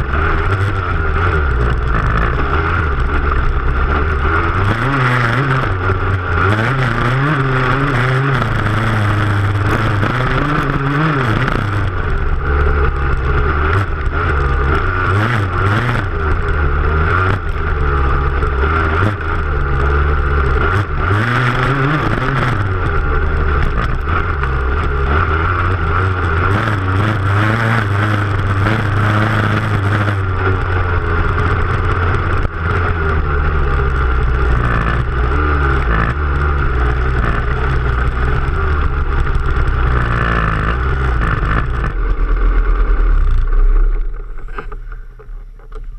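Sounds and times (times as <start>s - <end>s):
dirt bike engine revving: 0.0s - 45.2s.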